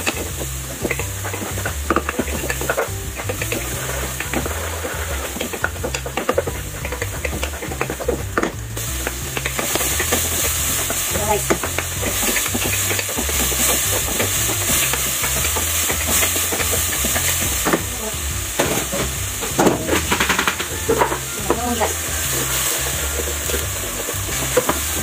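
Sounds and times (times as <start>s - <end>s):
food sizzling in hot oil: 0.0s - 25.0s
wooden spatula scraping a pan: 0.0s - 25.0s.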